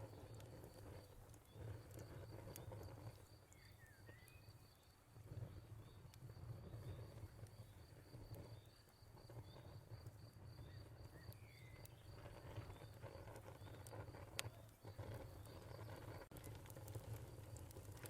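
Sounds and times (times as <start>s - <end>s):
fireplace crackling: 0.0s - 18.0s
cricket-like high chirp: 1.5s - 16.2s.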